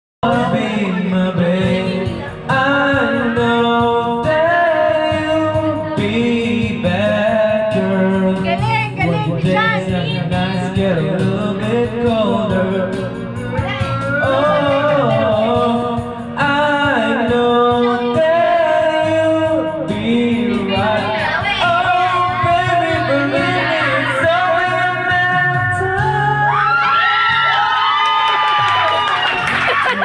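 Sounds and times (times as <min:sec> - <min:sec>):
instrumental backing music: 0:00.2 - 0:30.0.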